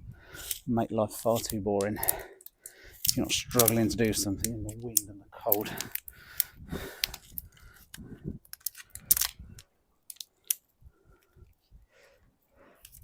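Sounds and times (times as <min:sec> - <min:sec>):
clicks and rustles of handling: 0:00.4 - 0:11.7, 0:12.8 - 0:13.0.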